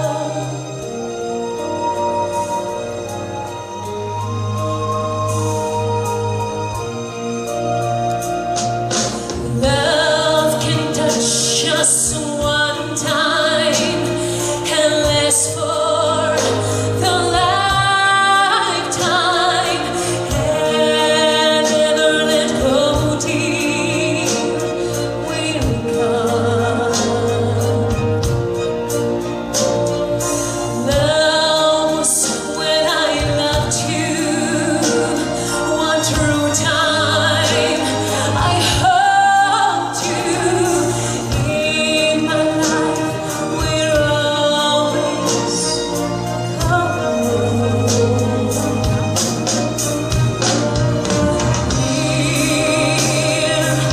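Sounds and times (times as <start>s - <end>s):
orchestral music with singing: 0.0s - 53.9s.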